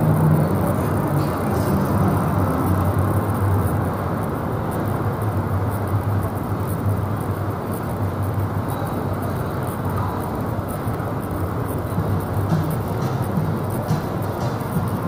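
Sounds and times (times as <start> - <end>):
city background rumble: 0.0 - 15.0.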